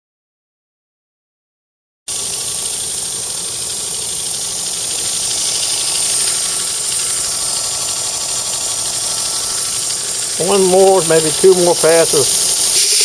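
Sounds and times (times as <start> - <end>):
belt grinder grinding blade: 2.1 - 13.0.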